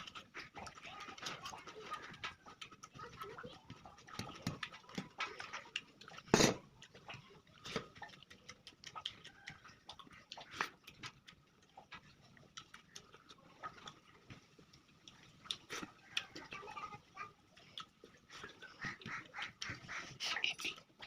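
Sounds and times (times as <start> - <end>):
chewing and mouth smacking: 0.0 - 21.0.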